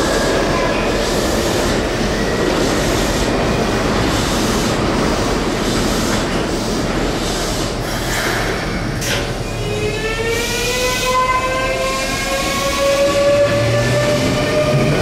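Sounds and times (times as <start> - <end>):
train rumbling at platform: 0.0 - 15.0.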